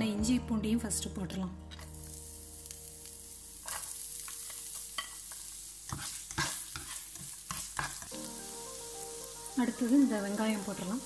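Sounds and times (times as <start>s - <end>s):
garlic sizzling in oil: 1.8s - 11.0s.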